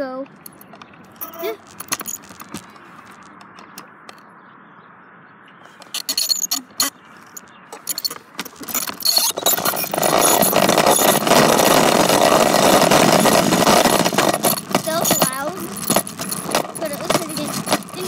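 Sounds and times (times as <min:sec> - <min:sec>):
bicycle rattling and clicking: 0:00.3 - 0:04.3, 0:05.7 - 0:18.0.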